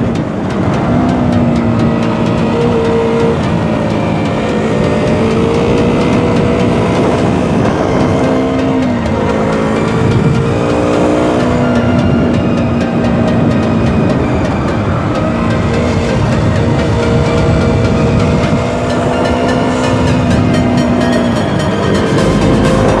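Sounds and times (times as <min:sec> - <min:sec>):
motorcycle engine while riding: 0:00.0 - 0:23.0.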